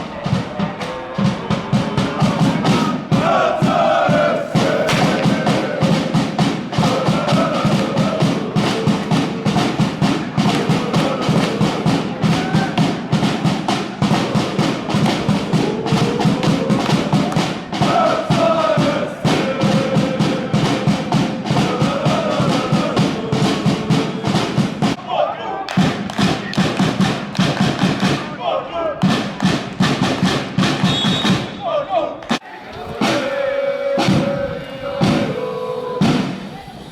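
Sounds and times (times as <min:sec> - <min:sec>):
fast steady drumbeat: 0:00.0 - 0:25.0, 0:25.7 - 0:28.4, 0:29.0 - 0:31.6, 0:32.3 - 0:36.9
crowd chanting: 0:00.0 - 0:30.5, 0:31.3 - 0:36.9.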